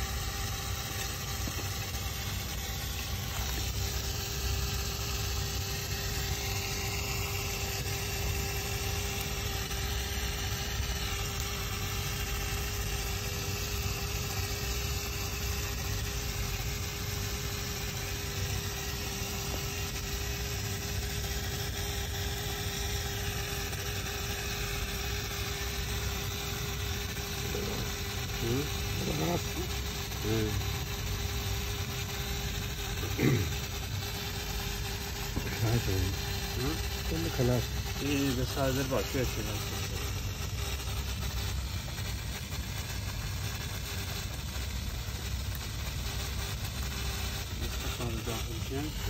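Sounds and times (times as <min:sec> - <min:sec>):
motor humming: 0:00.0 - 0:49.0.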